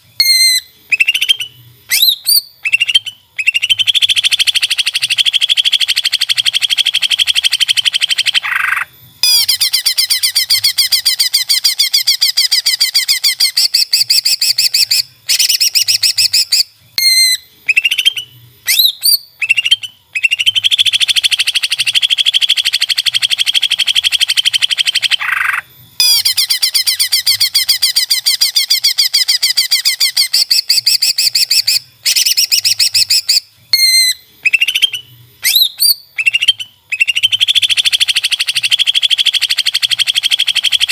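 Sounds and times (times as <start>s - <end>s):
bird singing fast trills: 0.0s - 40.9s
upswept bird whistles: 0.2s - 40.9s.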